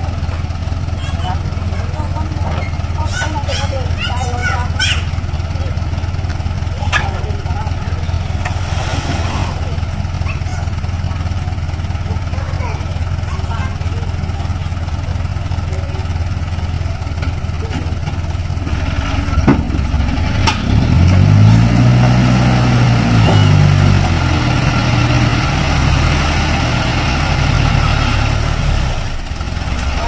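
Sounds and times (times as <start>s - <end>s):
diesel truck engine idling and revving: 0.0s - 30.0s.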